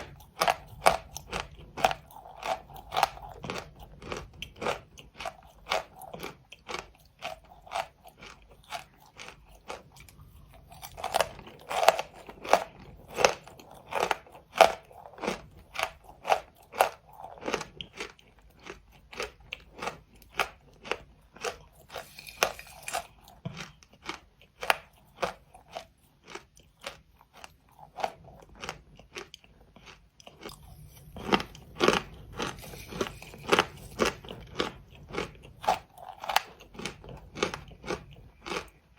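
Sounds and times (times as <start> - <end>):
crunchy chewing of chalk: 0.0 - 38.9.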